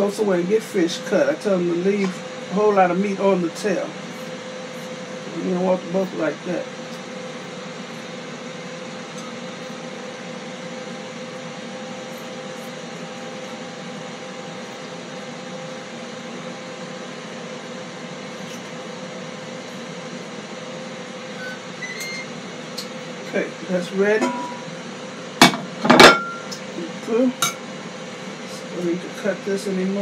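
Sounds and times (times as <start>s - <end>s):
appliance fan humming: 0.0s - 30.0s.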